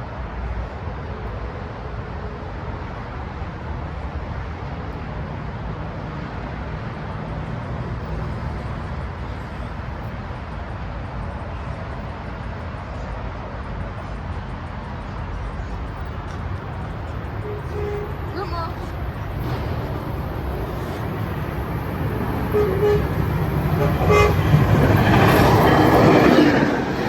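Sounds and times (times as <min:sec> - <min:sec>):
diesel train rumble and hiss: 0:00.0 - 0:27.0.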